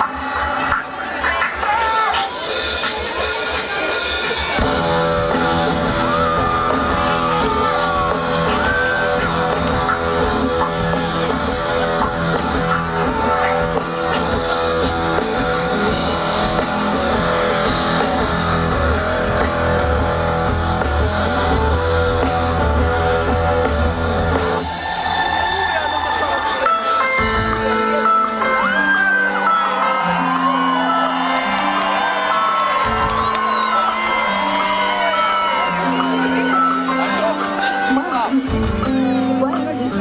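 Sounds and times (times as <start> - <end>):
drums: 0.0 - 40.0
electric guitars: 0.0 - 40.0
live rock band: 0.0 - 40.0.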